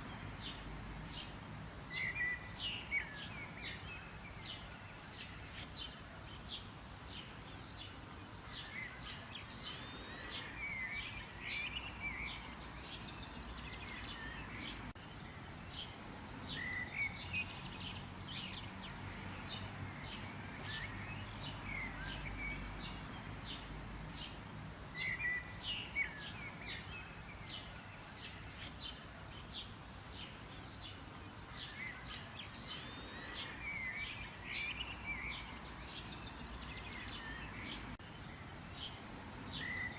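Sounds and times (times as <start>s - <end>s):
birds chirping and calling: 0.0s - 39.9s
outdoor background noise: 0.0s - 39.9s.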